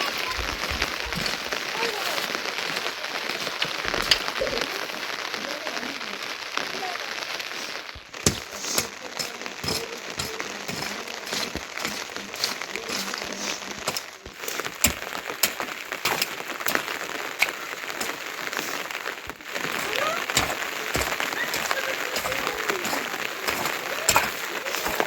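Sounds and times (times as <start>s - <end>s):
heavy rain hiss: 0.0s - 25.0s
raindrops tapping a surface: 0.0s - 25.0s.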